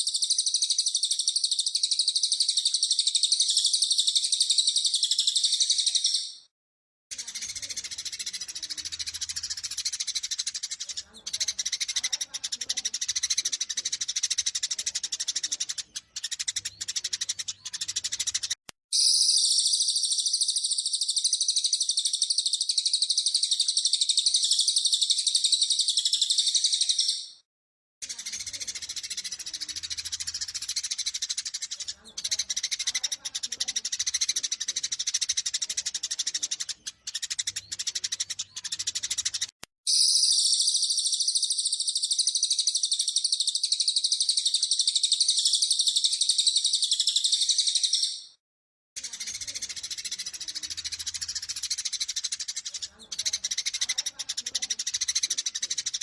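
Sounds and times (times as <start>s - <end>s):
high bird trill: 0.0s - 6.5s, 7.1s - 27.4s, 28.0s - 48.4s
sparrows chattering: 0.0s - 6.5s, 7.1s - 27.4s, 28.0s - 48.4s, 49.0s - 56.0s.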